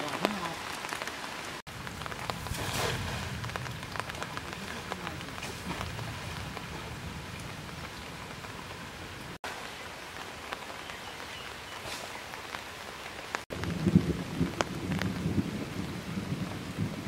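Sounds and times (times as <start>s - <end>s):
rain falling on pond: 0.0s - 17.0s.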